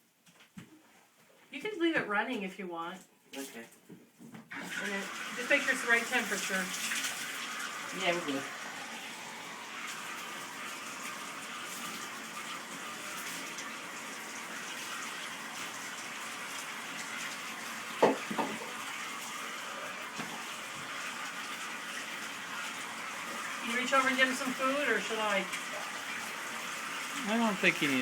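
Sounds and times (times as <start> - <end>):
water pouring into bathtub: 4.5 - 28.0.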